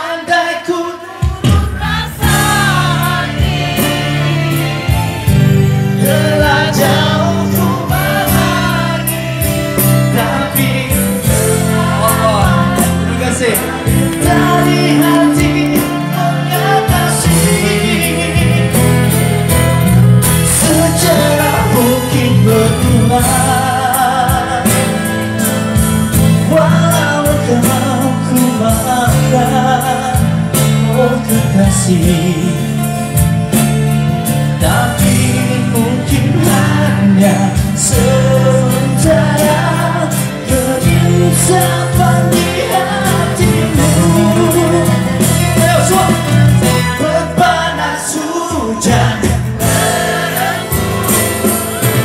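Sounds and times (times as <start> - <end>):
person singing: 0.0 - 33.2, 34.4 - 52.0
acoustic guitars: 0.0 - 52.0
electric bass guitar: 1.7 - 52.0.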